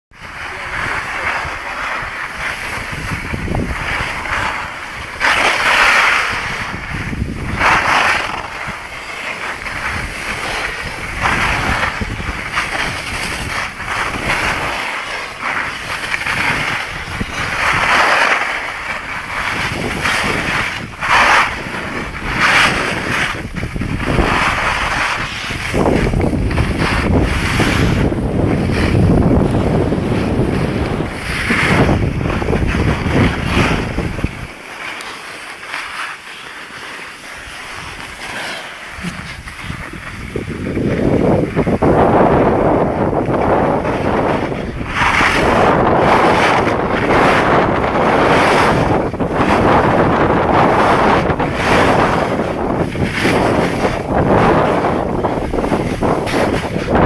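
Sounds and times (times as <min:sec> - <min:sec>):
wind buffeting microphone: 0:00.1 - 0:34.6, 0:38.8 - 0:57.0
skis scraping over snow: 0:00.2 - 0:57.0.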